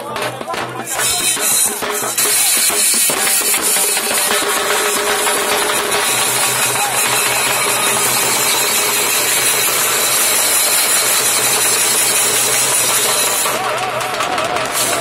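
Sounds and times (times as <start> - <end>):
hand drums rolling: 0.0 - 15.0
metal percussion jingling: 0.5 - 15.0.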